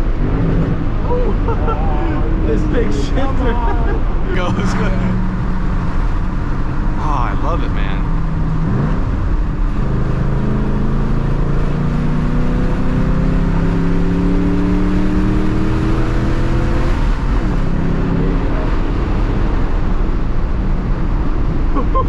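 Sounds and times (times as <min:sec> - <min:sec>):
car engine accelerating: 0:00.0 - 0:22.0
road and tyre noise: 0:00.0 - 0:22.0.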